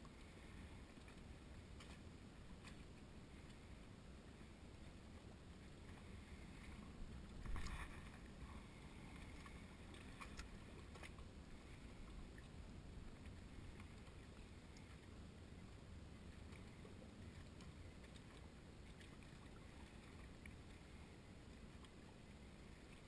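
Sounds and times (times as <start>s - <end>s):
small waves lapping against dock: 0.0s - 23.0s.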